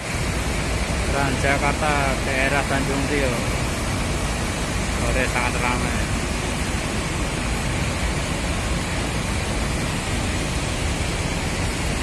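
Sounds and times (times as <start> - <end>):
traffic and buses rumbling: 0.0 - 12.0.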